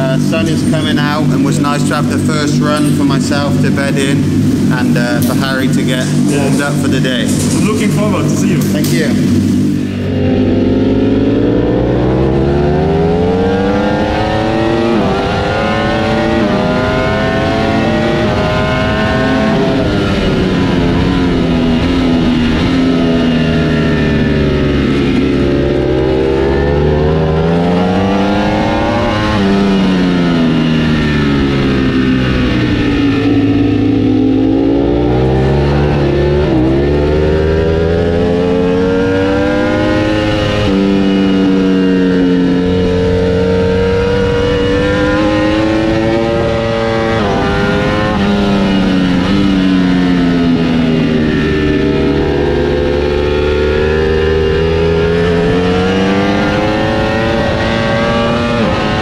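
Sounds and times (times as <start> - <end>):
wind rush: 0.0 - 53.1
motorcycle engine revving: 0.0 - 59.0.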